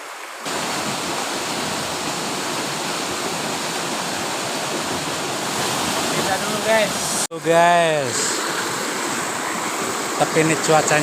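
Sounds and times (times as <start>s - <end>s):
fast-flowing river water rushing: 0.0s - 11.0s.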